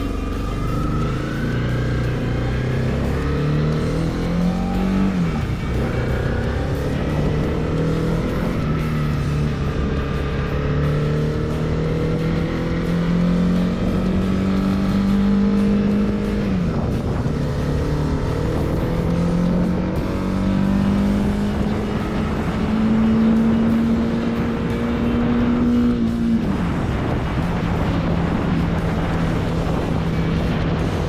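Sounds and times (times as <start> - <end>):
motorcycle engine under way: 0.0 - 31.0
wind and road noise: 0.0 - 31.0.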